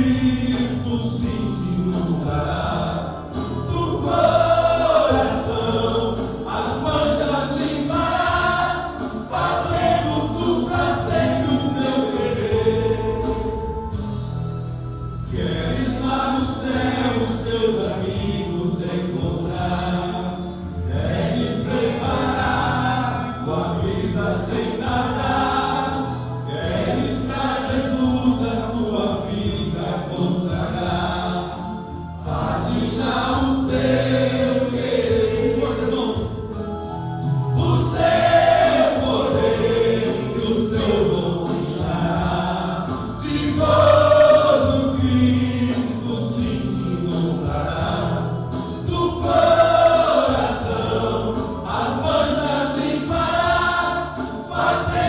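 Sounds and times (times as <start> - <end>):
instrumental accompaniment: 0.0 - 55.0
men's choir singing a hymn: 0.0 - 55.0.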